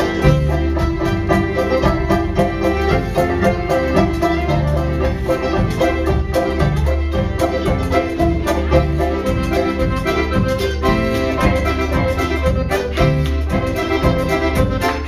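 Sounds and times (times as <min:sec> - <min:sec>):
accordion: 0:00.0 - 0:15.0
banjo: 0:00.0 - 0:15.0
fiddle: 0:00.0 - 0:15.0
mandolin: 0:00.0 - 0:15.0
snare and bass drum beat: 0:00.0 - 0:15.0.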